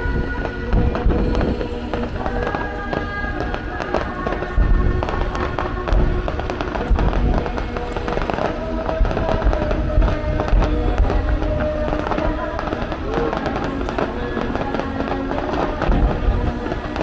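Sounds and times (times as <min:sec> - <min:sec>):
fireworks booming and crackling: 0:00.0 - 0:17.0
music soundtrack: 0:00.0 - 0:17.0.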